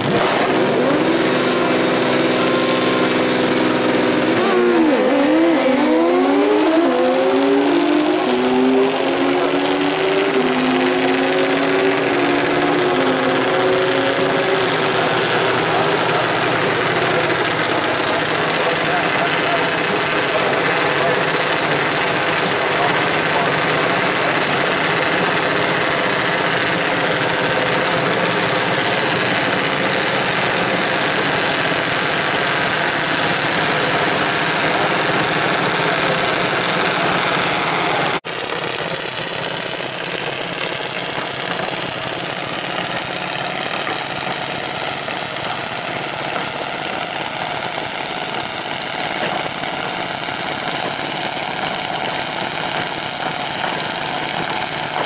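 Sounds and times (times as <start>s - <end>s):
small engines idling: 0.0s - 55.0s.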